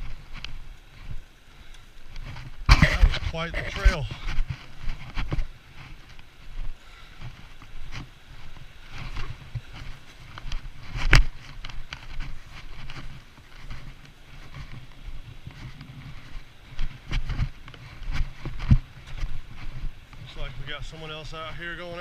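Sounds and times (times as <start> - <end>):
footsteps scuffing on rocks: 2.2 - 22.0.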